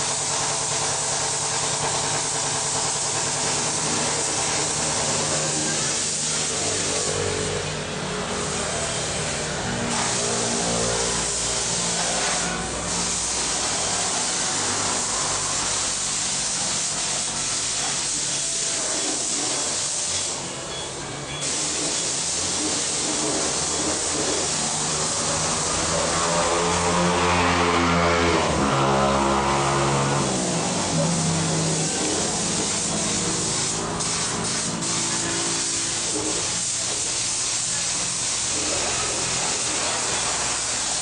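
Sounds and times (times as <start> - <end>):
compressed air hissing from hose: 0.0 - 7.3, 8.3 - 20.4, 21.4 - 26.6, 30.2 - 41.0.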